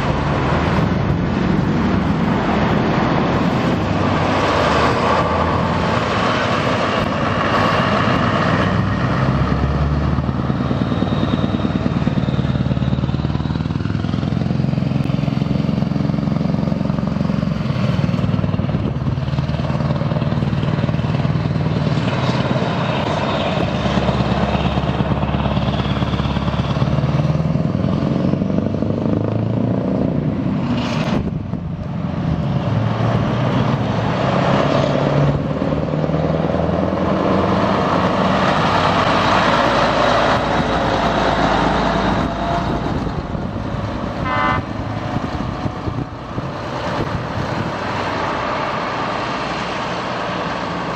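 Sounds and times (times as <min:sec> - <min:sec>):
diesel truck engines passing: 0:00.0 - 0:50.9.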